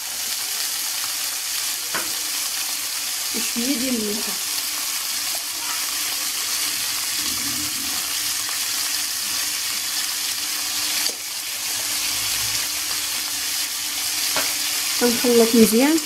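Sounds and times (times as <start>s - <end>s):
squid rings sizzling in oil: 0.0s - 16.0s.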